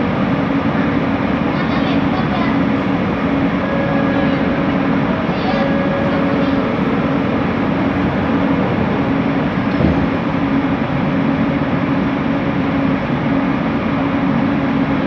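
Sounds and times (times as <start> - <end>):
constant low hum: 0.0 - 15.0
train running on rails: 0.0 - 15.0.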